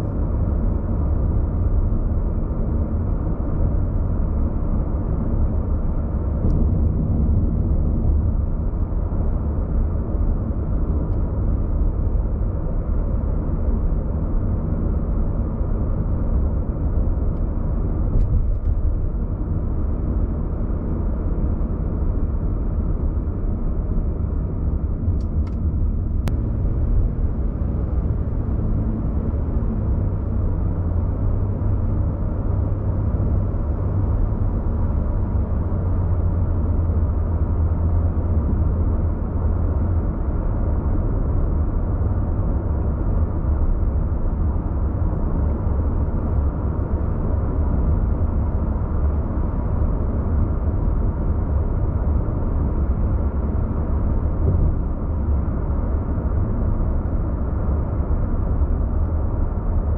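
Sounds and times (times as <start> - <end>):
car engine and road noise: 0.0 - 59.9
low hum: 0.0 - 59.9.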